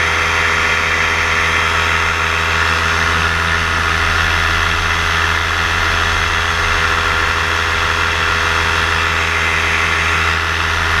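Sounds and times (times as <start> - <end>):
model aircraft motor humming: 0.0 - 11.0.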